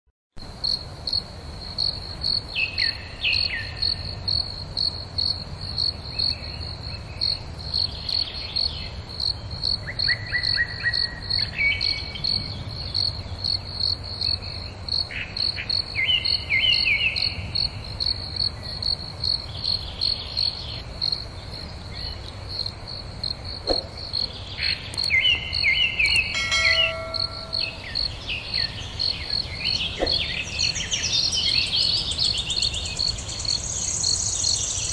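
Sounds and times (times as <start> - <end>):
cricket chirping: 0.4 - 34.9
birds twittering: 2.5 - 4.2, 6.1 - 34.9.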